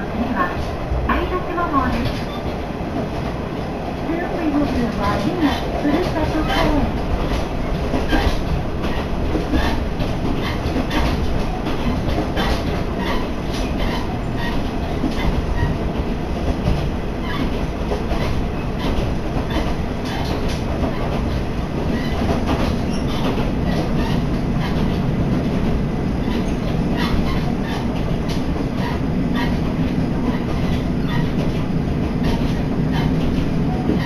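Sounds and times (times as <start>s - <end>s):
train rumble: 0.0s - 34.0s
wheels clacking over rail joints: 0.0s - 34.0s.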